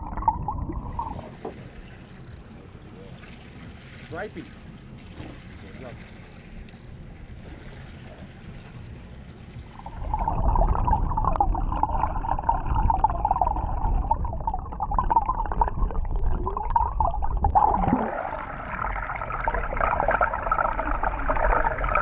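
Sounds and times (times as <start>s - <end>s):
underwater gurgling and bubbling: 0.0s - 3.7s, 6.7s - 22.0s.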